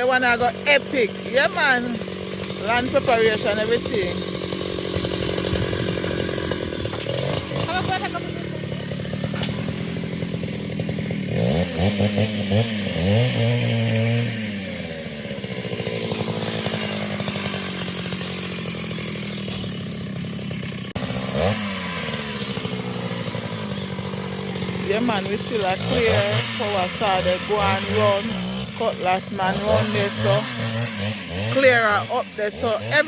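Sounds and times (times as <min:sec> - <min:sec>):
chainsaw engine revving: 0:00.0 - 0:33.0.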